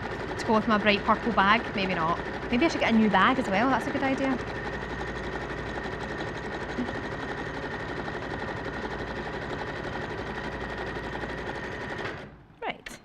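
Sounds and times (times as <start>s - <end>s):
sewing machine motor whine: 0.0s - 12.5s.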